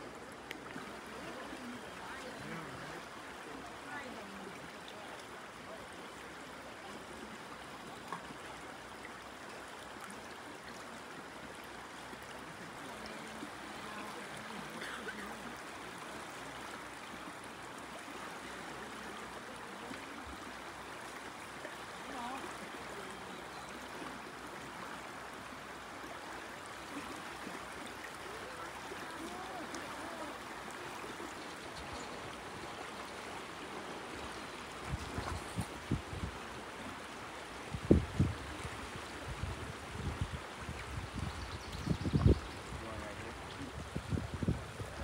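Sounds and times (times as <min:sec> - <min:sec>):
river water flowing: 0:00.0 - 0:45.0.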